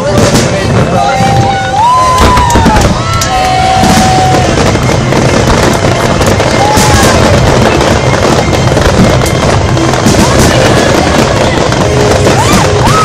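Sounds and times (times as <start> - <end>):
fireworks bangs and crackles: 0.0 - 13.0
firework whistles: 0.4 - 13.0.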